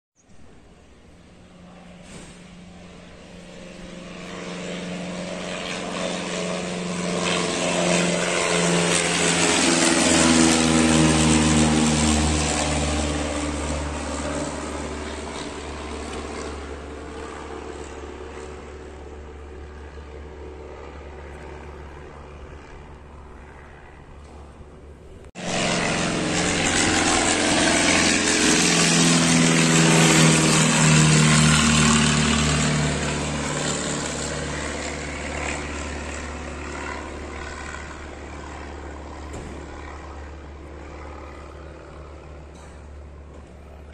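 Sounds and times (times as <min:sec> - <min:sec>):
close light plane engine: 0:00.2 - 0:43.9
propeller plane engine drone: 0:00.2 - 0:43.9.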